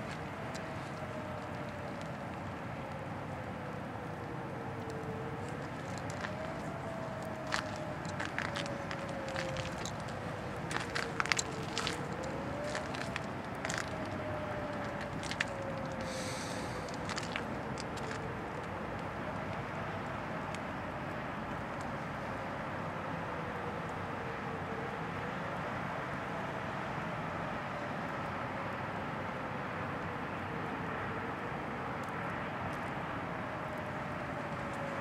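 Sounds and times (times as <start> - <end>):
distant warning siren wavering: 0.0 - 35.0
outdoor rush of noise: 0.0 - 35.0.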